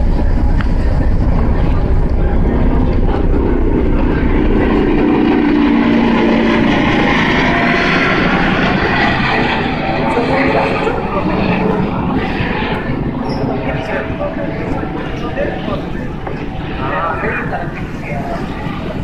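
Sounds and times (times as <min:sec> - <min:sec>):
ferry engine drone: 0:00.0 - 0:19.0
wind buffeting microphone: 0:00.0 - 0:19.0.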